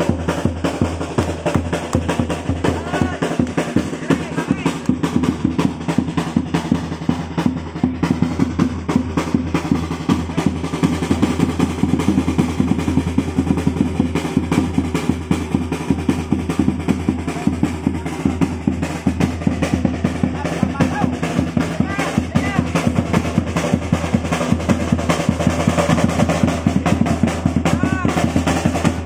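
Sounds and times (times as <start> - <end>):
marching snare drums: 0.0 - 29.0.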